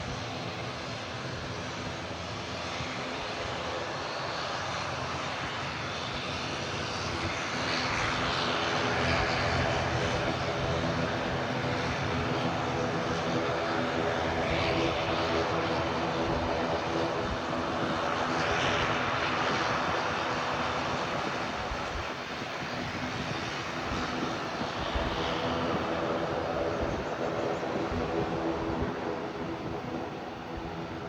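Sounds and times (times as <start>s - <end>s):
airliner engines droning: 0.0s - 31.0s.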